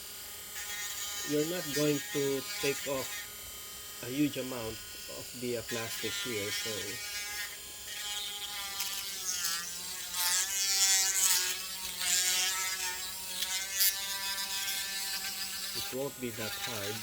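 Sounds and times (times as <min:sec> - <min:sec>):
rotary tool grinding plastic: 0:00.0 - 0:17.0.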